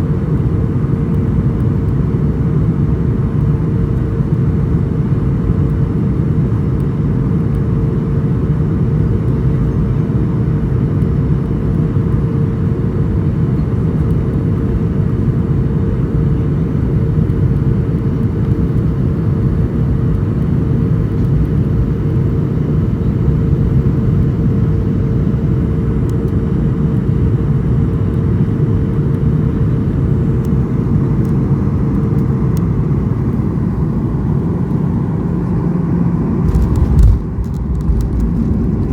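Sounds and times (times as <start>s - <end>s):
airliner engines and airflow rumble: 0.0s - 38.9s
steady hum: 0.0s - 38.9s.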